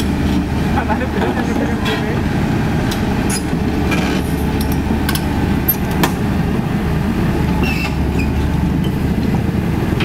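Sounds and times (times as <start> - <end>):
excavator diesel engine rumbling: 0.0 - 10.0.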